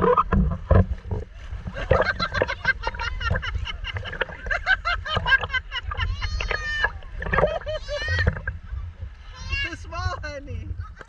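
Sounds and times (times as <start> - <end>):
seawater sloshing and splashing: 0.0 - 11.0
steady low rumble: 0.0 - 11.0.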